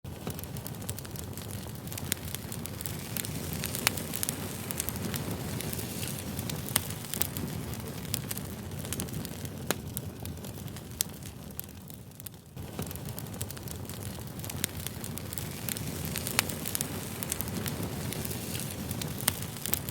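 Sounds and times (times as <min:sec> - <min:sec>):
burning wood crackling and popping: 0:00.0 - 0:19.9
low rush of flames: 0:00.1 - 0:19.9.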